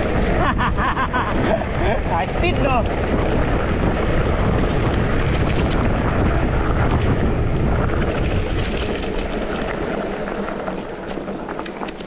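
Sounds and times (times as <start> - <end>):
tyres rumbling over dirt trail: 0.0 - 12.0
wind buffeting microphone: 0.0 - 12.0.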